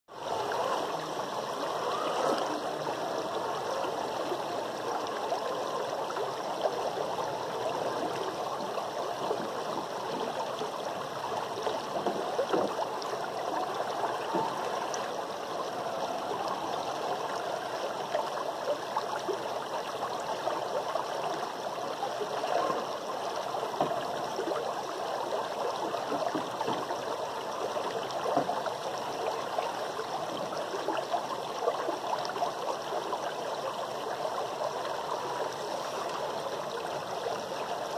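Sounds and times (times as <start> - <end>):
stream babbling over stones: 0.1 - 37.9.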